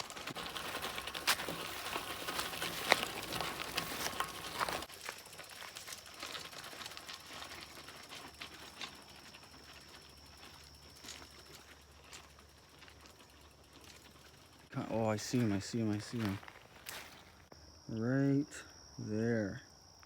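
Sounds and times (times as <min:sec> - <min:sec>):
bicycle tyres crunching on gravel: 0:00.0 - 0:17.5.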